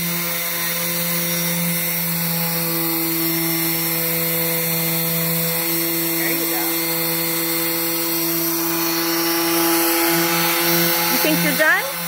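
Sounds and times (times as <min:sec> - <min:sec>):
orbital sander on wood: 0:00.0 - 0:12.0.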